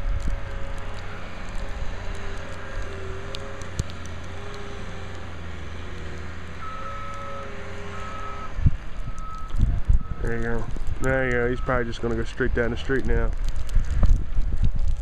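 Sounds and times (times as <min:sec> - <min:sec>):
diesel engine running with whine: 0:00.0 - 0:15.0.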